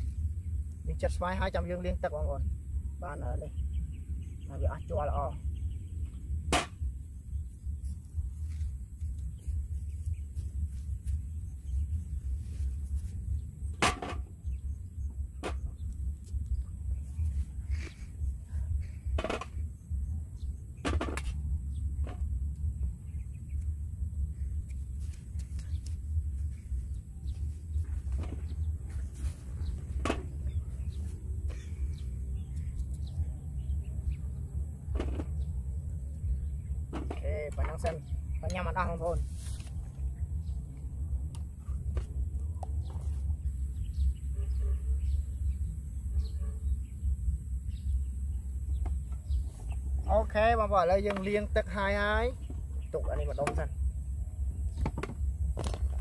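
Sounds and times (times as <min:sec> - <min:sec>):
birds chirping: 0:00.0 - 0:56.0
steady low rumble: 0:00.0 - 0:56.0
wind buffeting microphone: 0:00.0 - 0:56.0.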